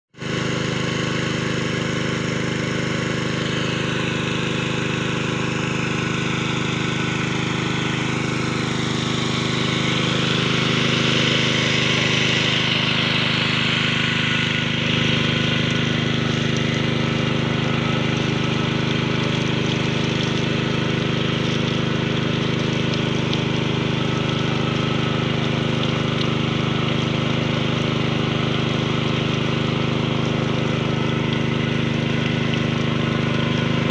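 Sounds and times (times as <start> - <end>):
water pump engine running: 0.1 - 33.9
water splashing: 0.2 - 33.9.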